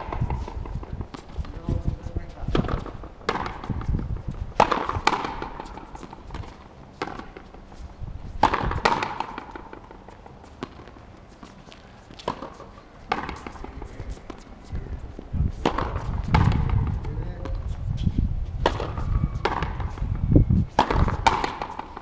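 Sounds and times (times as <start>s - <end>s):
ball striking racket and wall: 0.0s - 14.6s, 15.5s - 17.7s, 18.6s - 22.0s.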